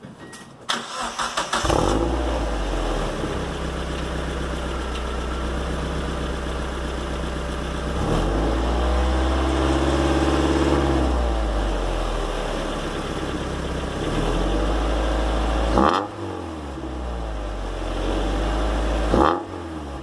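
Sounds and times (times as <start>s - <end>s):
car engine starting and idling: 0.7s - 20.0s.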